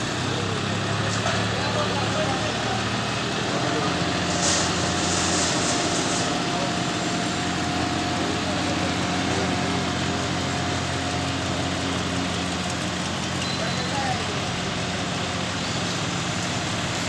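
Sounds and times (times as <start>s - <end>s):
tractor engines idling: 0.0s - 17.0s.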